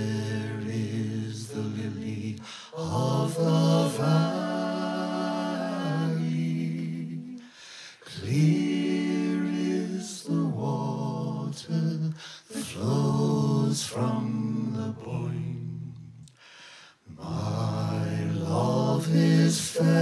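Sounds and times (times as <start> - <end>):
group singing held chords: 0.0 - 20.0.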